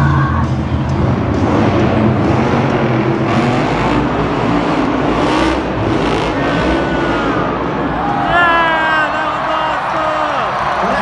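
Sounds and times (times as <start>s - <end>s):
vehicle engine revving: 0.4s - 10.2s.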